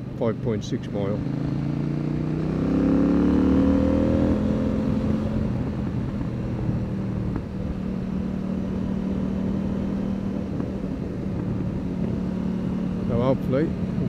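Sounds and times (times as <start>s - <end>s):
motorcycle engine cruising: 0.0s - 14.0s
road and wind noise: 0.0s - 14.0s.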